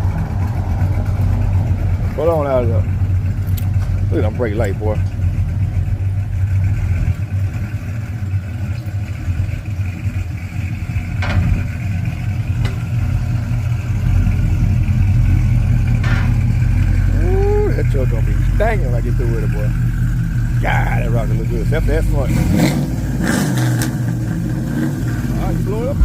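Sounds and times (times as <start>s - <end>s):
truck engine deep rumble: 0.0s - 26.0s.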